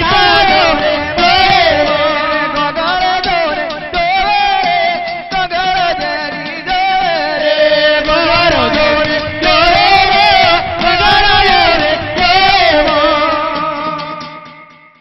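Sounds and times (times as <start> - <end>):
person singing in chanting style: 0.0 - 14.4
instrumental accompaniment: 0.0 - 15.0.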